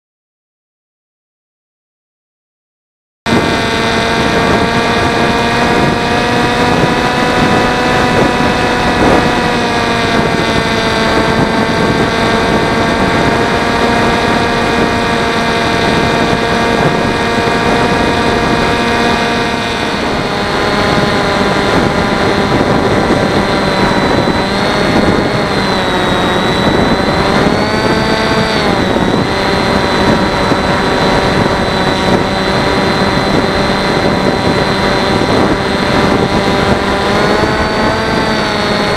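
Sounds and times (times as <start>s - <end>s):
electric motor and propeller whining: 3.3s - 38.9s
wind noise: 3.3s - 38.9s.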